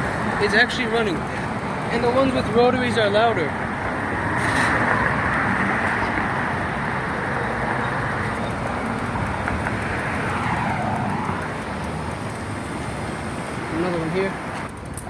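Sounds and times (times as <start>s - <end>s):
cars passing by: 0.0s - 15.0s.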